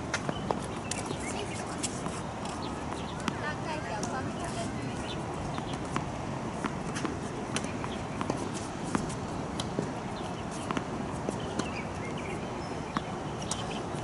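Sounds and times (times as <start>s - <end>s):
tennis balls bouncing: 0.0s - 14.0s.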